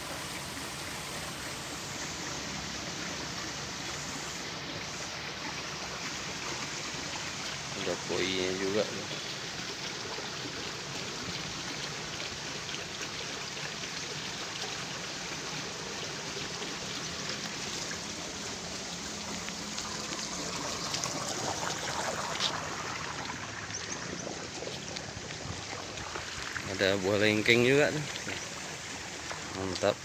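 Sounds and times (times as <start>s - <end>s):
water rushing through channel: 0.0s - 30.0s.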